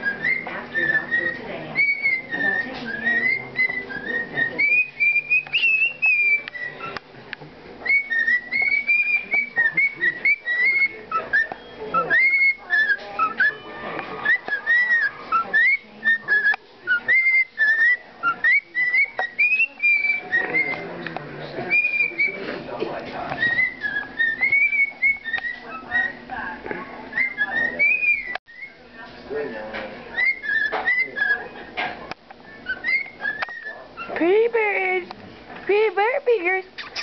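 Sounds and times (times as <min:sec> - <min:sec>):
cockatiel whistling: 0:00.0 - 0:07.0, 0:07.8 - 0:22.5, 0:23.2 - 0:34.4, 0:36.8 - 0:37.0.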